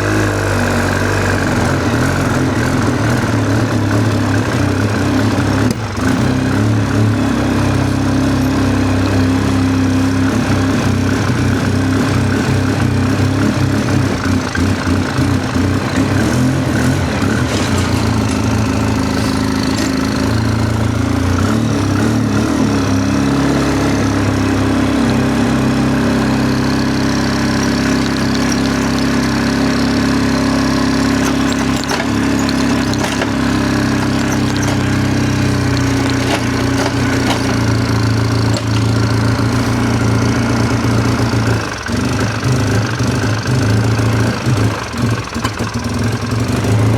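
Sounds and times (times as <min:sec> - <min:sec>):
atv engine idling: 0:00.0 - 0:46.9.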